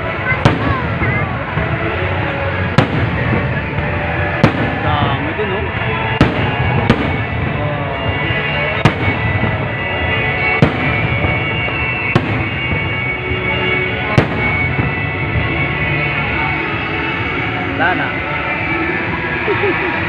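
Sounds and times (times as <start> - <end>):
fireworks bursting: 0.0 - 17.4.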